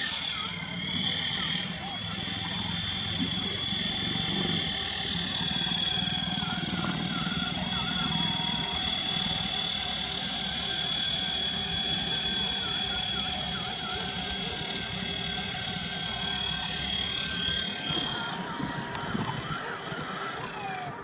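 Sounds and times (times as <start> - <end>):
rc helicopter motors whining: 0.0 - 21.0.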